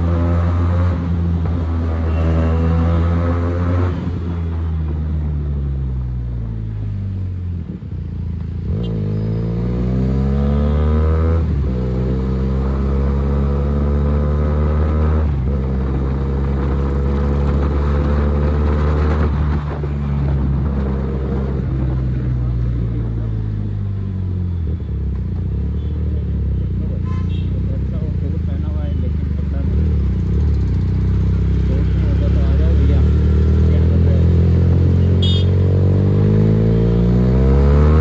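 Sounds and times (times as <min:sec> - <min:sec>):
motorcycle engine and exhaust: 0:00.0 - 0:38.0.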